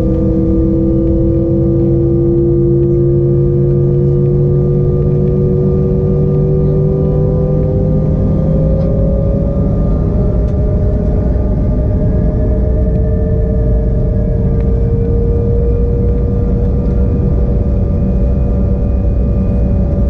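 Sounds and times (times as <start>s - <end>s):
jet engine whine and rumble: 0.0s - 20.0s.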